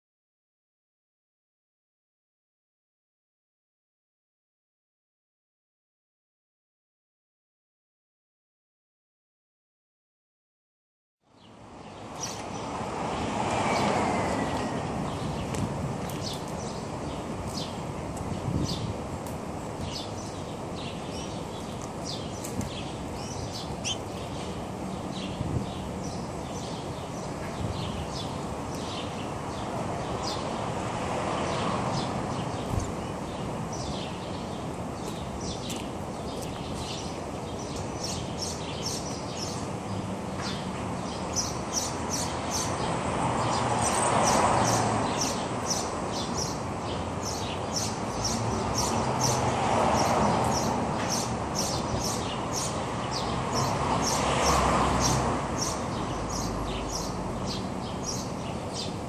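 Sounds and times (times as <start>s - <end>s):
small birds chirping: 11.3s - 59.0s.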